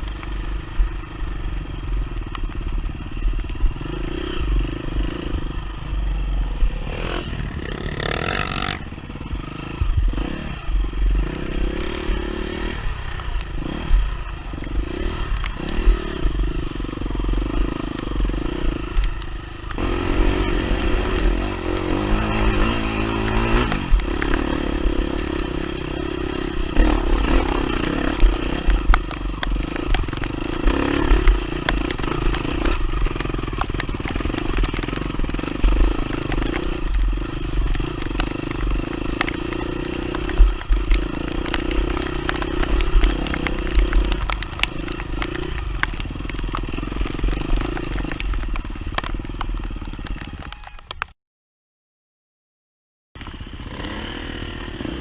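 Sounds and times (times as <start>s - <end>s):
dirt bike engine revving: 0.0s - 50.8s, 53.2s - 55.0s
bike rattling: 0.0s - 51.1s.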